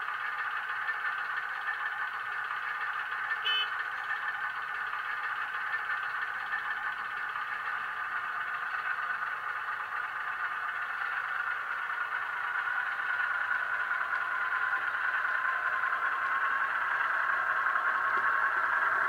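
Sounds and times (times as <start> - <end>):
diesel engine through small speaker: 0.0 - 19.0.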